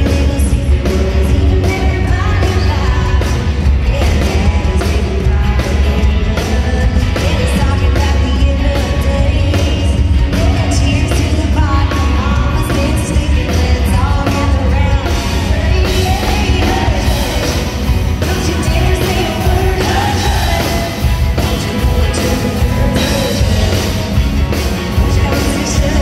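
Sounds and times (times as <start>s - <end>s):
women singing: 0.0s - 24.0s, 24.9s - 26.0s
live country band: 0.0s - 26.0s.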